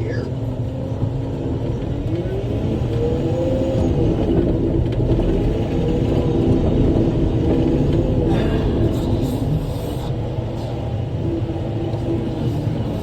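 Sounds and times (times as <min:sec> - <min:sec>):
diesel engine rumble with whine: 0:00.0 - 0:13.0.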